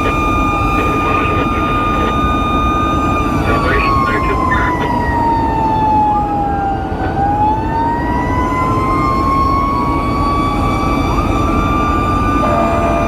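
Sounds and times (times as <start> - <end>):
fire engine siren wailing: 0.0 - 13.0
steady siren tone: 0.0 - 13.0
truck engine and road noise: 0.0 - 13.0.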